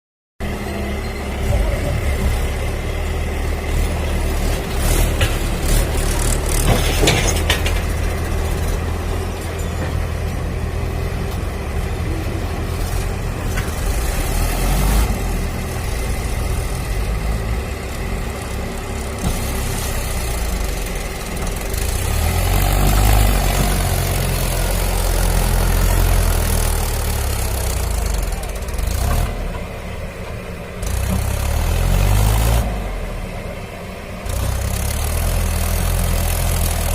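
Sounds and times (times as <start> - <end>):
low engine rumble: 0.4 - 36.9.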